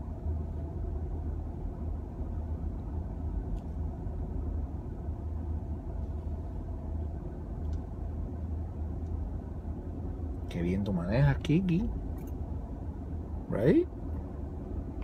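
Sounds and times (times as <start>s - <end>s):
low rumble inside car cabin: 0.0s - 15.0s.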